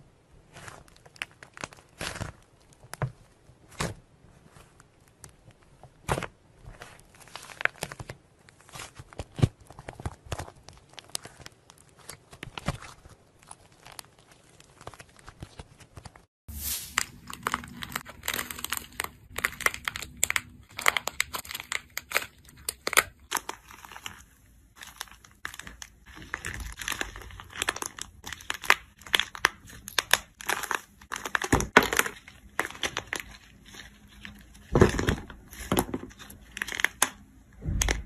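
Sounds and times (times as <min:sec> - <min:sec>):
crusted clay crackling: 0:00.2 - 0:38.0
hands squeezing slime: 0:06.8 - 0:38.0.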